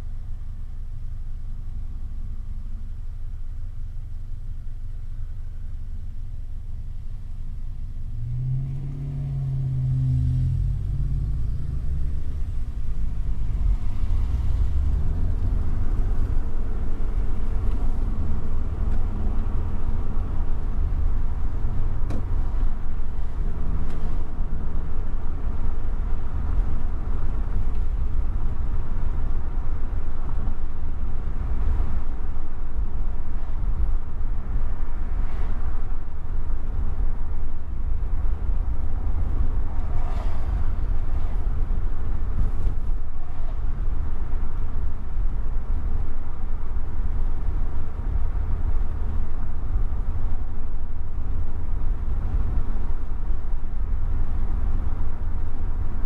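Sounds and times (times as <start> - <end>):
car road and engine rumble: 0.0 - 56.0
vehicles passing: 4.5 - 56.0.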